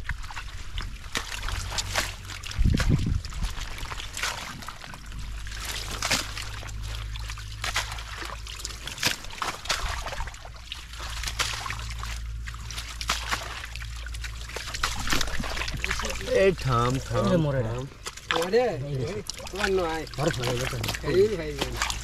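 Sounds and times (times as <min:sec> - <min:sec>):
steady low rumble: 0:00.0 - 0:22.0
water splashing and sloshing: 0:00.0 - 0:22.0.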